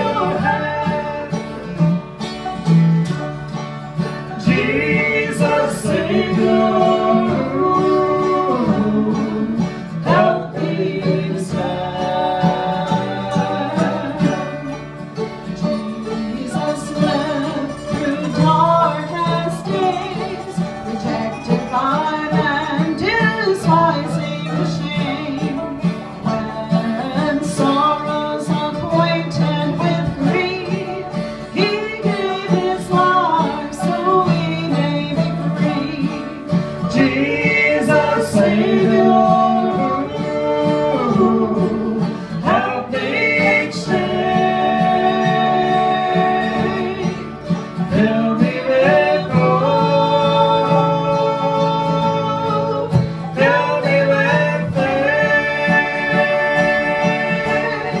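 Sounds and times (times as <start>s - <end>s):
person singing: 0.0s - 2.0s, 4.2s - 58.0s
mandolin: 0.0s - 58.0s
resonator guitar: 0.0s - 58.0s
strummed acoustic guitar: 0.0s - 58.0s.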